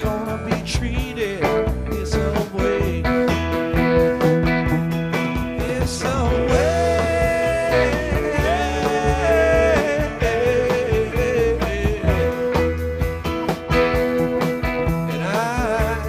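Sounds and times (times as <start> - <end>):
song with sliding lead melody: 0.0 - 16.0
steady bass line: 0.0 - 16.0.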